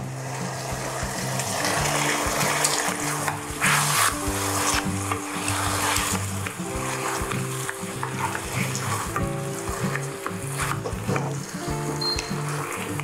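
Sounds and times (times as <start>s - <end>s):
background music: 0.0s - 13.0s
stir-fry sizzling in a pan: 0.0s - 13.0s
utensil scraping a pan: 0.2s - 13.0s.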